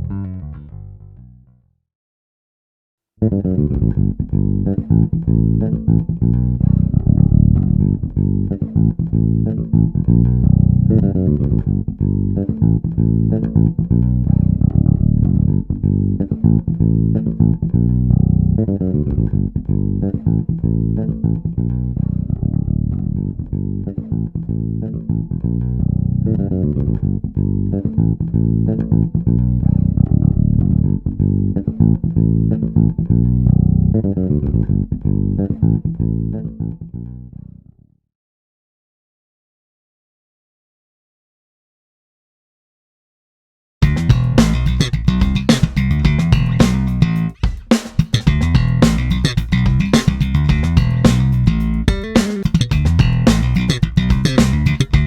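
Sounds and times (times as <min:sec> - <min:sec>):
electric bass guitar plucked notes: 0:00.0 - 0:01.7, 0:03.2 - 0:37.8, 0:43.8 - 0:55.0.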